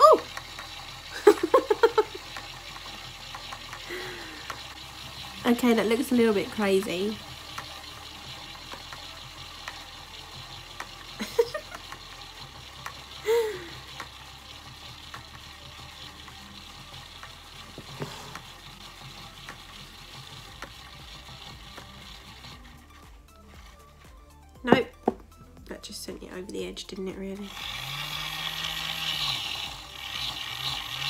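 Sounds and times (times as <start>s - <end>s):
toy washing machine motor churning: 0.0s - 31.0s.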